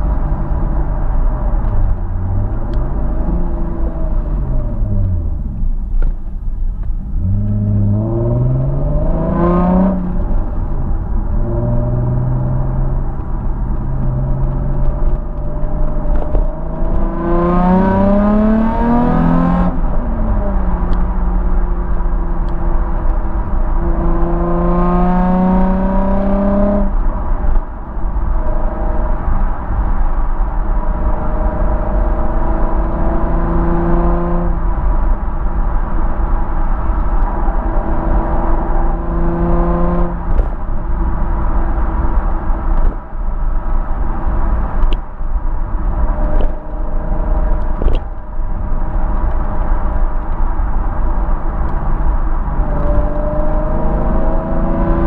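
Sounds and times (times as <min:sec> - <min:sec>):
car exhaust accelerating: 0:00.0 - 0:55.0.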